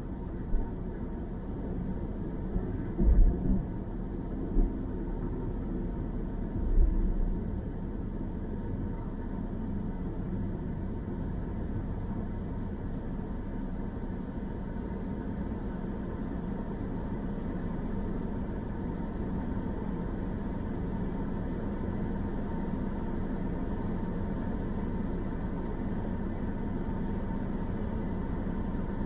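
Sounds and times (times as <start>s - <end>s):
car road and engine noise: 0.0s - 29.0s.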